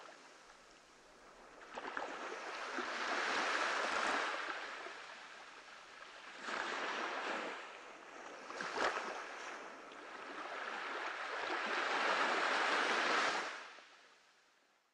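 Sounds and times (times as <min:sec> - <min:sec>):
waves washing onto sandy beach: 0:00.0 - 0:13.8.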